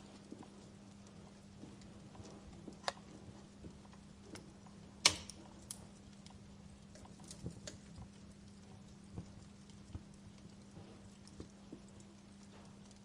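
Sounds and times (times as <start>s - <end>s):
faint low hum: 0.0s - 13.0s
wood fire crackling: 0.0s - 13.0s.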